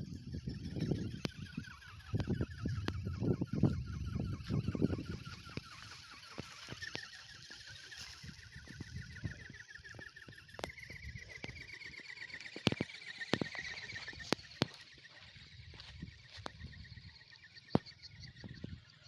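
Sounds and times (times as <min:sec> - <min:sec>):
pulsing whine of small motor: 0:00.0 - 0:19.0
wind rumbling on microphone: 0:00.0 - 0:19.0.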